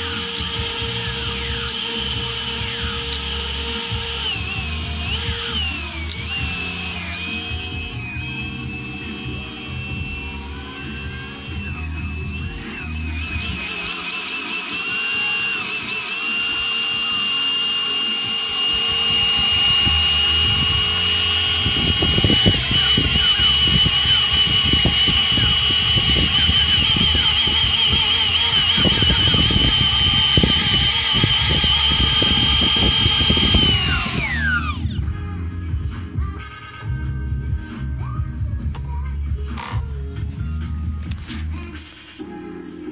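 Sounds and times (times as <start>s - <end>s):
quadcopter motors whining: 0.0s - 35.3s, 39.5s - 39.9s.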